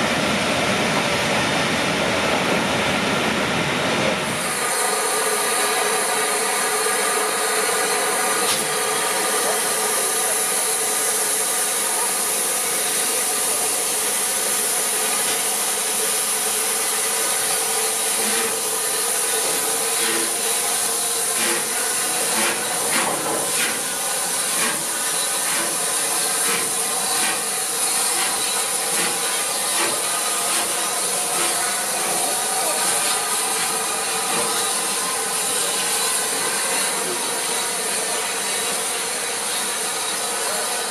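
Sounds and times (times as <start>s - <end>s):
steam locomotive hissing: 3.8s - 40.9s.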